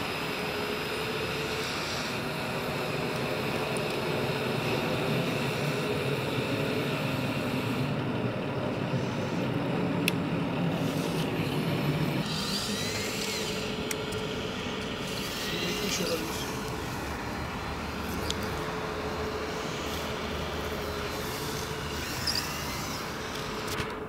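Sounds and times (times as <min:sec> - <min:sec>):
electric motor and hydraulic hum: 0:00.0 - 0:24.0.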